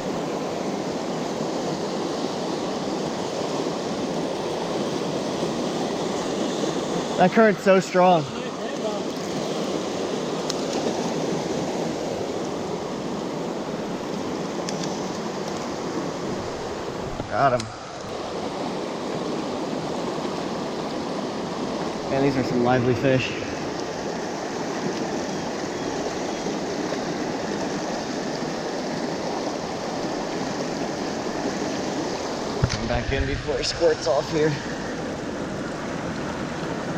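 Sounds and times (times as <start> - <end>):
river rushing over rocks: 0.0 - 36.9.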